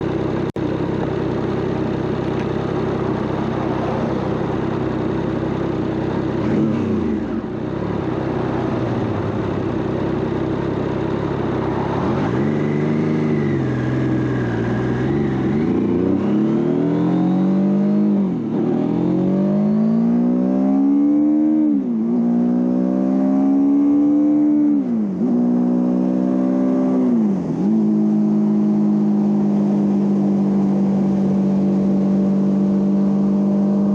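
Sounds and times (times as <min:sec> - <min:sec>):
motorcycle engine accelerating through gears: 0:00.0 - 0:33.9.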